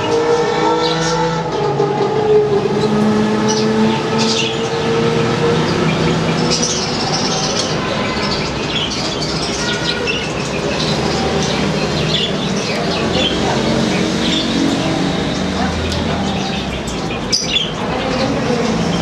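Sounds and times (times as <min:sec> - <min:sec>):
budgerigars chattering and chirping: 0:02.9 - 0:19.0.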